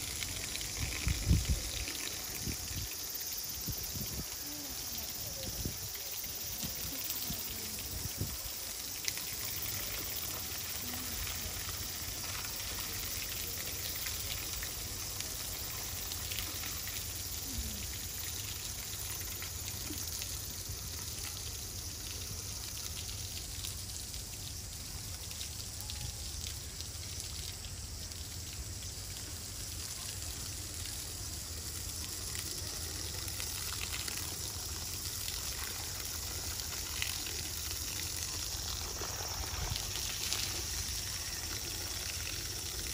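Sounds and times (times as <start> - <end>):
hose water spraying: 0.0 - 42.9.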